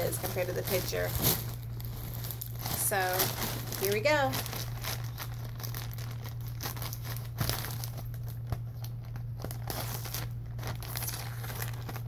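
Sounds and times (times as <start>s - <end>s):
plastic bag crinkling and tearing: 0.0s - 12.0s
steady low hum: 0.0s - 12.0s.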